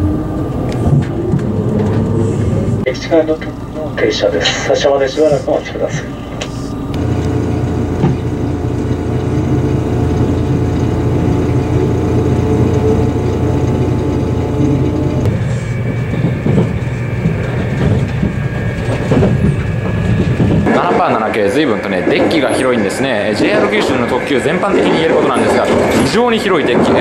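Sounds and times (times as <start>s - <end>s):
electric train hum and whine: 0.0s - 27.0s
train running clicks: 0.0s - 27.0s.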